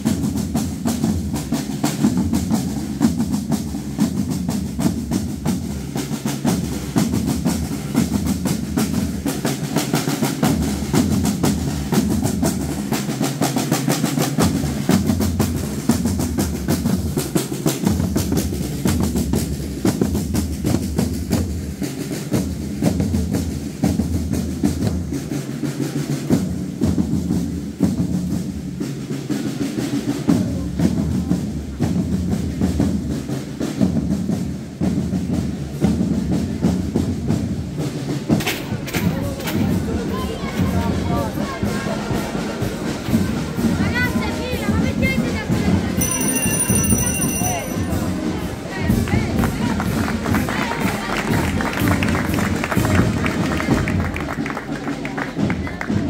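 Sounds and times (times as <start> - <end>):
procession drums playing march beat: 0.0 - 56.0.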